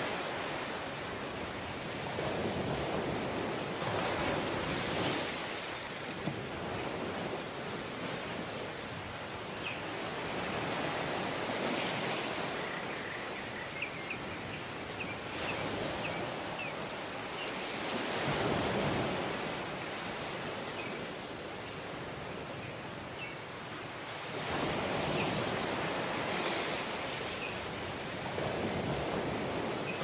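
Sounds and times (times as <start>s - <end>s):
waves breaking on beach: 0.0s - 30.0s.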